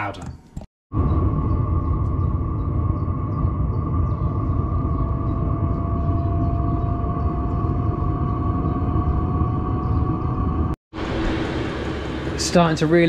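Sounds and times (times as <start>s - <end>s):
diesel air heater roaring: 0.9s - 13.0s.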